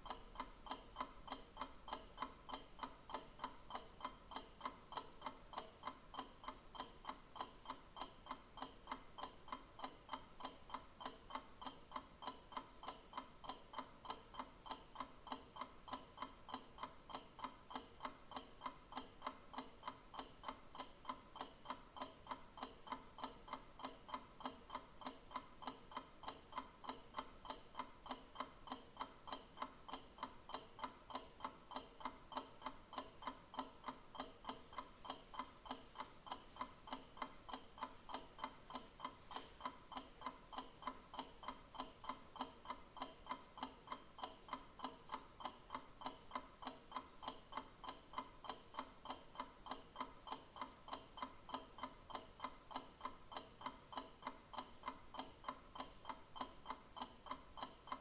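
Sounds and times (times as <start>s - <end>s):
mechanical clock ticking: 0.0s - 58.0s.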